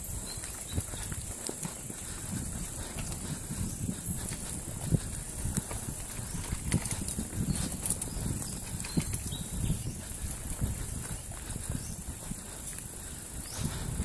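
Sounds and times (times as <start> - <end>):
bike tyres rumbling over dirt: 0.0 - 14.0
wind buffeting microphone: 0.0 - 14.0.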